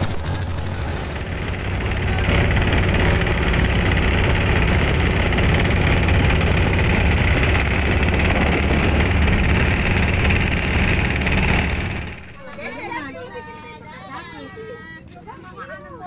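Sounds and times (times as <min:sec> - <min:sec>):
water rushing along bow: 0:00.0 - 0:13.4
boat engine running: 0:00.0 - 0:13.5.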